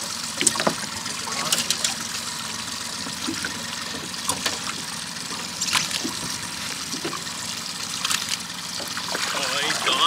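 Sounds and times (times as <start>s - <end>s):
small splashes and drips: 0.4s - 10.0s
water sloshing against boat hull: 0.4s - 10.0s.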